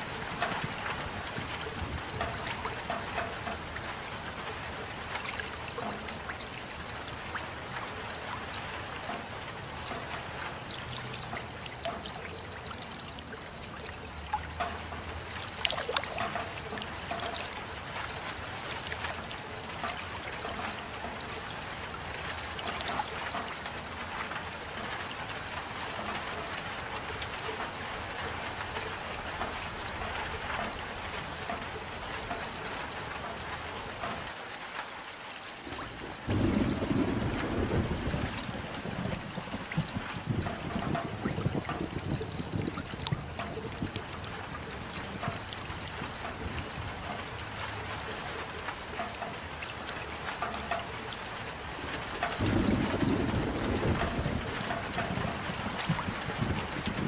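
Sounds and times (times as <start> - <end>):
drops ticking: 0.0 - 34.3, 36.3 - 57.0
steady rain: 0.0 - 57.0
water trickling: 0.0 - 57.0.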